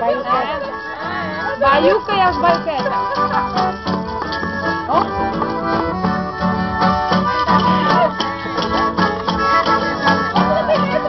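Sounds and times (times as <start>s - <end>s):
acoustic guitar: 0.0s - 11.0s
piano accordion: 0.0s - 11.0s.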